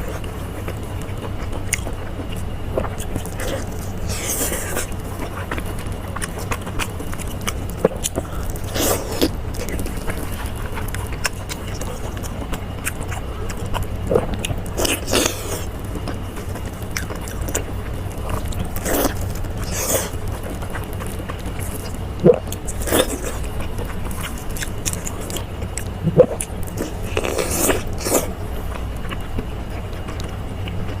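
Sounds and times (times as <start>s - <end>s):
biting and chewing: 0.0s - 31.0s
low hum: 0.0s - 31.0s.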